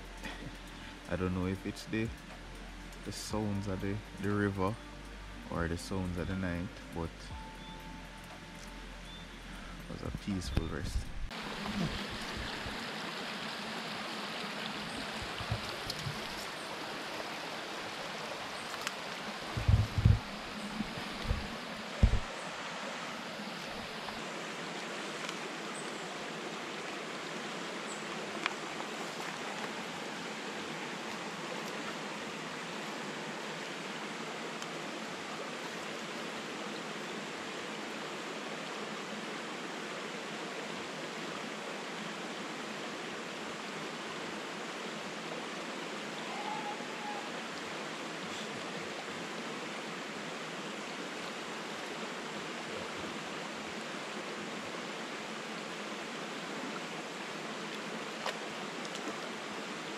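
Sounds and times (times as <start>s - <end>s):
river rushing over rocks: 10.2s - 59.9s.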